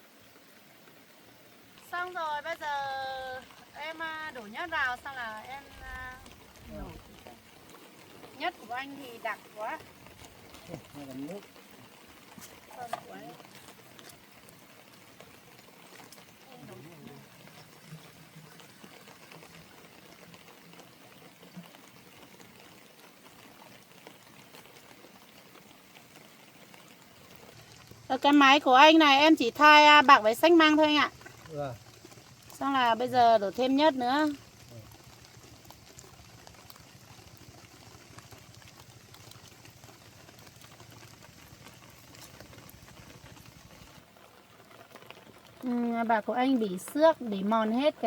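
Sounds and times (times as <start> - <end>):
liquid trickling while poured: 0.2 - 48.0.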